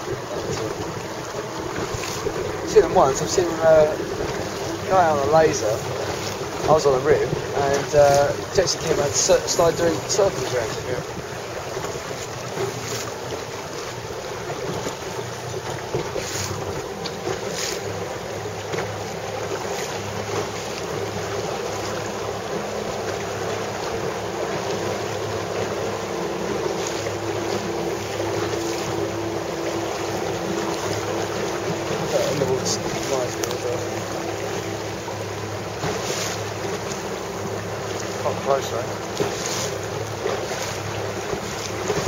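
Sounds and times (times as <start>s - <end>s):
water lapping against hull: 0.0s - 42.0s
wind buffeting microphone: 0.0s - 42.0s.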